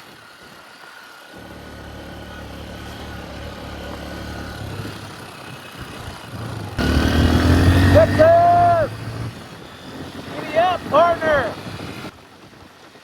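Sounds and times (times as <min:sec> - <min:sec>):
motorcycle engine running: 0:01.4 - 0:12.1.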